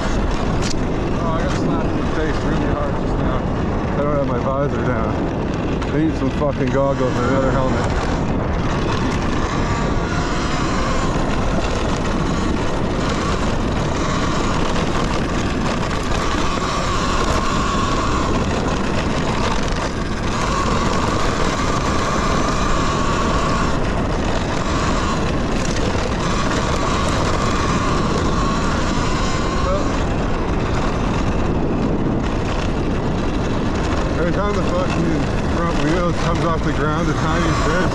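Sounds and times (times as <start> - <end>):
electric motor whine: 0.0 - 37.9
tyre and chassis noise: 0.0 - 37.9
wind rushing over microphone: 0.0 - 37.9.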